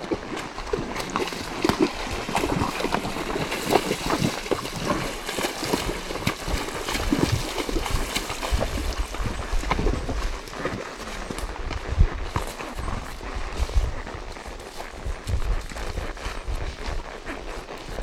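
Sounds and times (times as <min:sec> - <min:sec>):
horse hooves splashing in water: 0:00.0 - 0:18.0.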